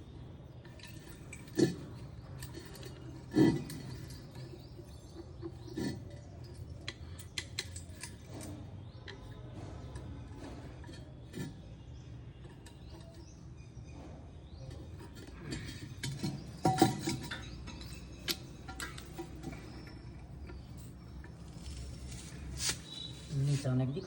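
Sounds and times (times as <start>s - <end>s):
hand tools clicking and tapping: 0.6s - 13.4s, 14.6s - 23.1s.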